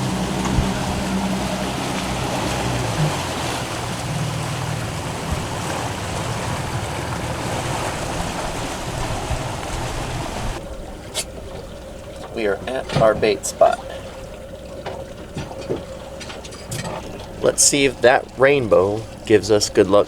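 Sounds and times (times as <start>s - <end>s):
boat engine running: 0.0s - 20.0s
wind and water rushing: 0.0s - 20.0s.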